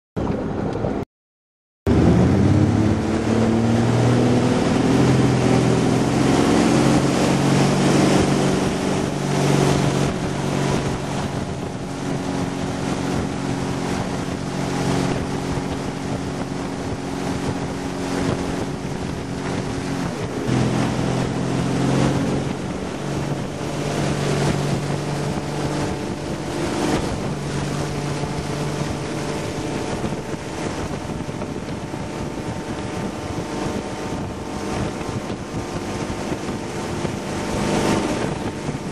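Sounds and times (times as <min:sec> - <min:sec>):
wind on microphone: 0:00.2 - 0:01.0, 0:01.9 - 0:38.9
boat engine: 0:01.9 - 0:38.9
rushing water spray: 0:01.9 - 0:38.9.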